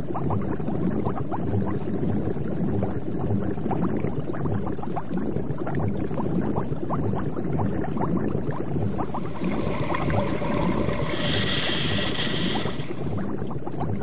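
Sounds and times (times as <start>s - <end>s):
air bubbles gurgling underwater: 0.0s - 14.0s
low rumble of water: 0.0s - 14.0s.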